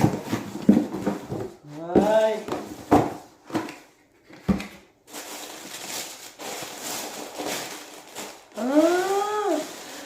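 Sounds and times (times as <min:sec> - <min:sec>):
box and paper rustling: 0:00.0 - 0:10.0.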